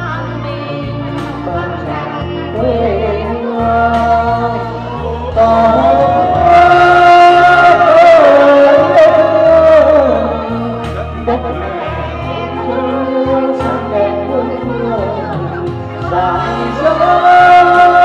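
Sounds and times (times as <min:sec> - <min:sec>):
backing music with bass line: 0:00.0 - 0:18.0
woman singing into microphone: 0:00.0 - 0:18.0.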